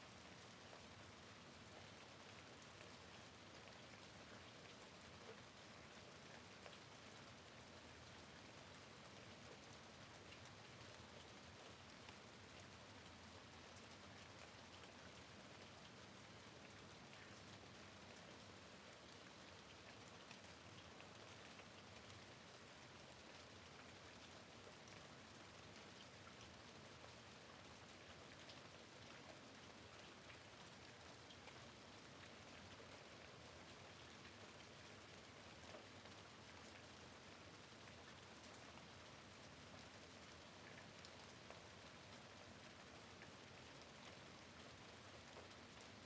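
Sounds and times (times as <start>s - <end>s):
faint steady rain: 0.0s - 46.0s.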